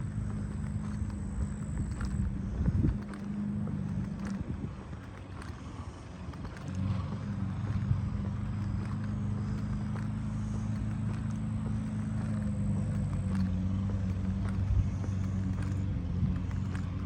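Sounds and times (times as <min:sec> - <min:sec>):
faint ticks: 0:00.0 - 0:17.0
low mechanical hum: 0:00.0 - 0:17.0
outdoor background noise: 0:00.0 - 0:17.0.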